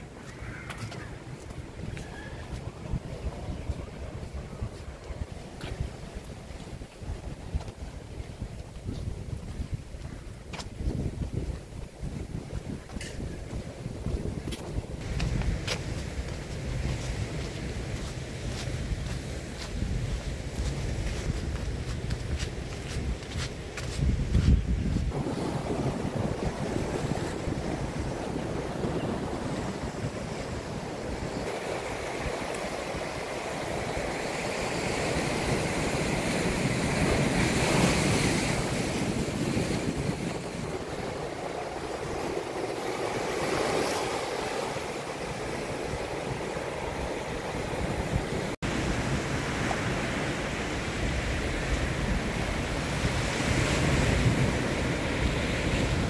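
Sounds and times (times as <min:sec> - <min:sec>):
ocean surf on rocks: 0:00.0 - 0:56.0
wind buffeting microphone: 0:00.0 - 0:56.0.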